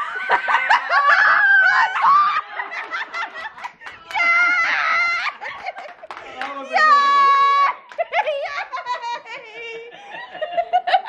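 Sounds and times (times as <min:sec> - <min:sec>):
group laughing and shrieking: 0:00.0 - 0:11.0.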